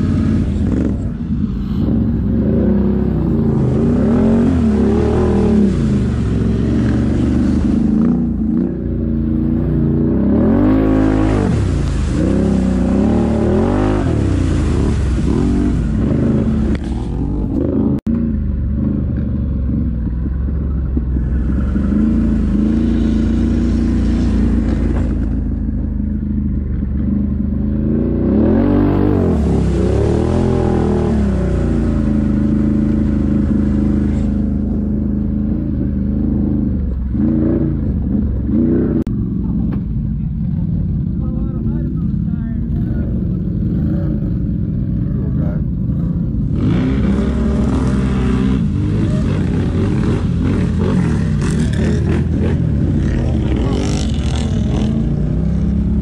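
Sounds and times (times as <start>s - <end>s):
atv driving through mud: 0.0s - 56.0s
atv engine revving: 0.0s - 56.0s.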